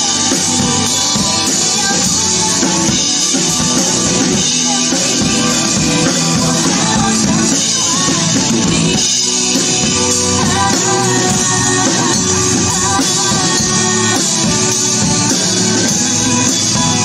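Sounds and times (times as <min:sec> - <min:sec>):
drum kit playing: 0:00.0 - 0:17.0
pop backing track: 0:00.0 - 0:17.0
woman singing: 0:00.0 - 0:17.0.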